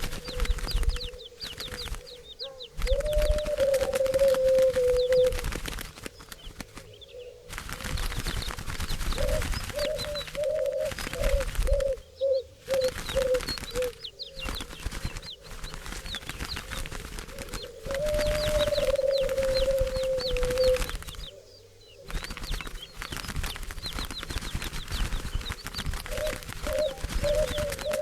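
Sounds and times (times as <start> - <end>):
wings flapping: 0.0 - 21.4, 22.0 - 28.0
doves cooing: 0.0 - 28.0
small birds chirping: 0.0 - 28.0.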